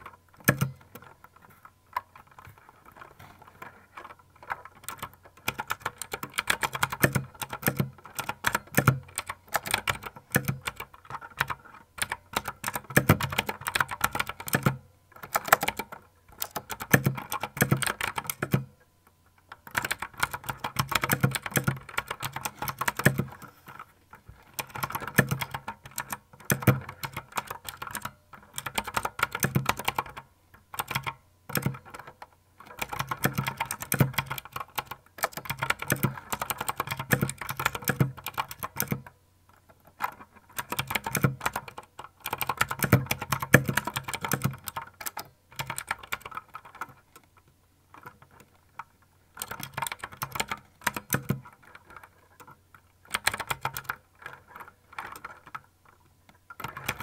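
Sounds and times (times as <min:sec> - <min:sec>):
mechanical keyboard typing: 0:00.0 - 0:18.7, 0:19.5 - 0:47.2, 0:47.9 - 0:57.0.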